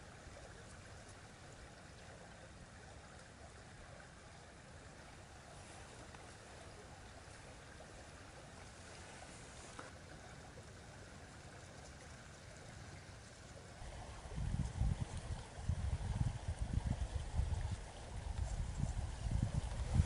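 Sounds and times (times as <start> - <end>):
creek rushing: 0.0 - 20.0.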